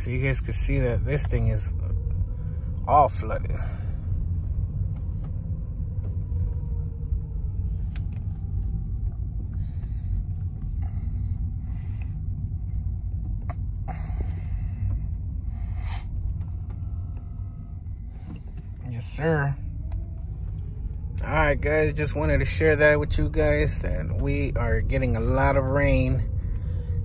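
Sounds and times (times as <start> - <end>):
car rumble from inside cabin: 0.0 - 27.0.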